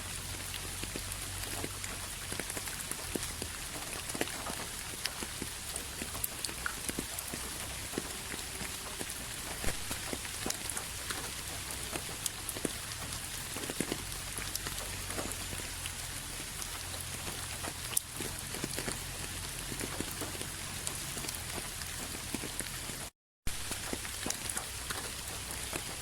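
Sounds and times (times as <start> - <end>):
raindrops ticking on a surface: 0.0 - 26.0
steady rain hiss: 0.0 - 26.0.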